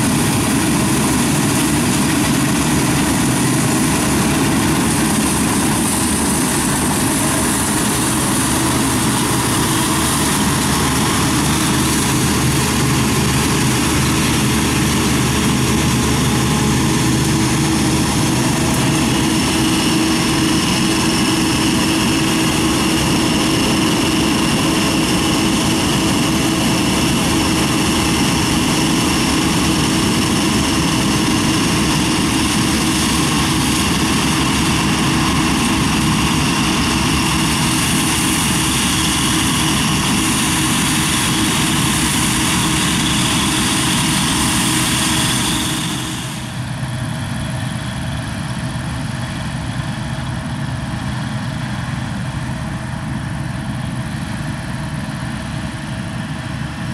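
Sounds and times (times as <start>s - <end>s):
combine harvester diesel drone: 0.0s - 56.9s.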